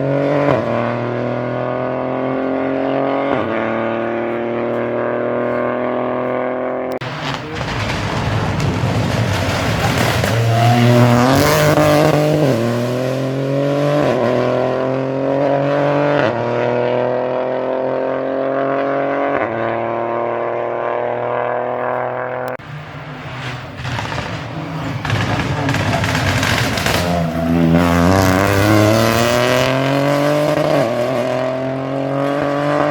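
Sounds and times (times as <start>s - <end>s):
rally car engine accelerating: 0.0s - 32.9s.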